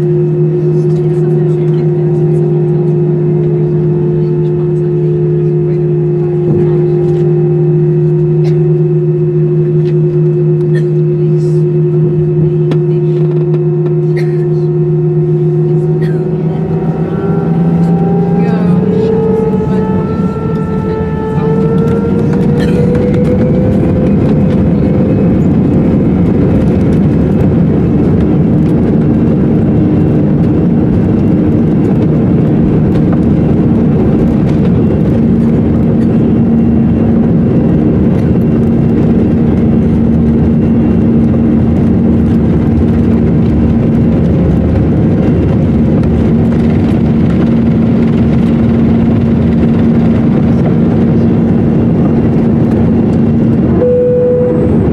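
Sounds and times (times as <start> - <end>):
jet engines roaring: 0.0 - 54.9.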